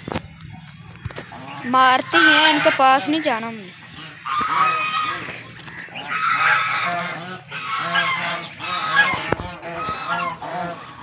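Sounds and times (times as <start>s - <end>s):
geese honking: 0.8s - 11.0s.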